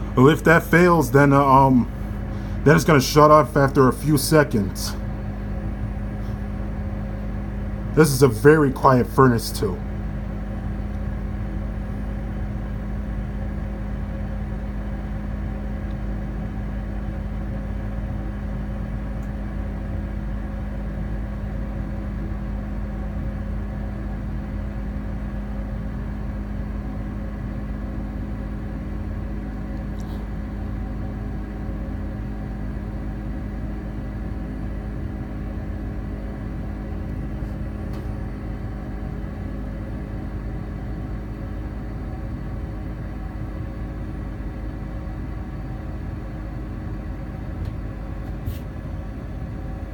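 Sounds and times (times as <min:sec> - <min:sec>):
gas furnace humming: 0:00.0 - 0:49.9.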